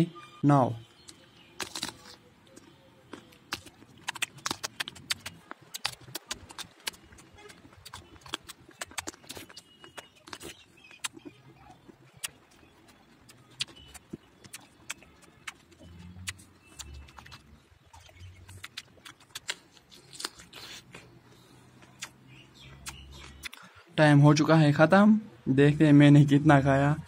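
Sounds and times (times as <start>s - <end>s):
wet chewing: 0.9s - 23.7s
mouth clicks and smacks: 1.0s - 23.7s
biting into fruit: 1.1s - 21.2s, 21.8s - 23.7s.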